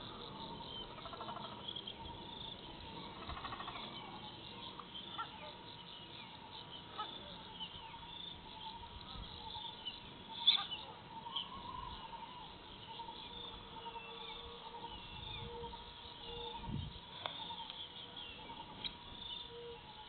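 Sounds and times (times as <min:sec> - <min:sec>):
insects and birds chirping: 0:00.0 - 0:20.0.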